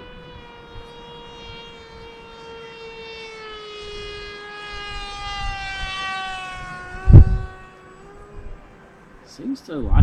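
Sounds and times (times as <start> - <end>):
electric motor and propeller whining: 0.0 - 10.0.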